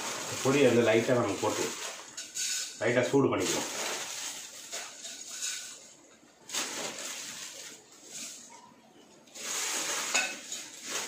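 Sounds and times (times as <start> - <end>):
puffed rice pouring: 0.0 - 8.5, 9.3 - 11.0
plastic bag crinkling: 0.0 - 8.6, 9.3 - 11.0.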